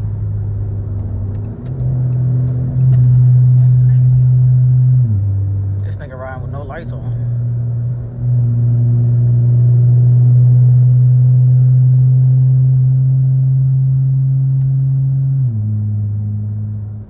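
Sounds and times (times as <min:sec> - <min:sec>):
car engine and exhaust droning: 0:00.0 - 0:17.0.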